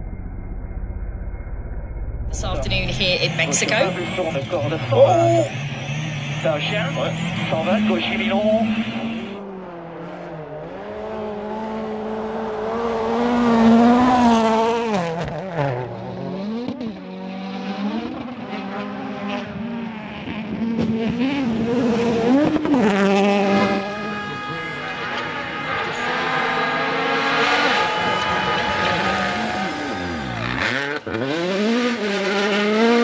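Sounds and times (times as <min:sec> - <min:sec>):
rally car engines revving hard: 0:02.3 - 0:33.0.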